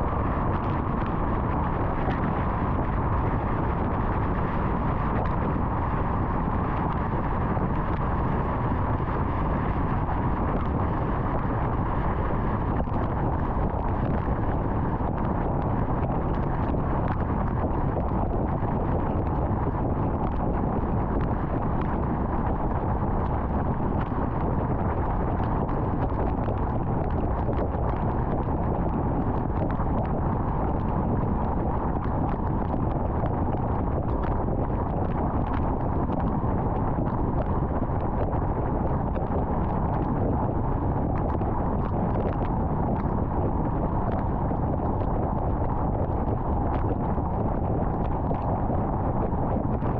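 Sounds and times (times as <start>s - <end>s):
tyre and wind road noise: 0.0s - 49.9s.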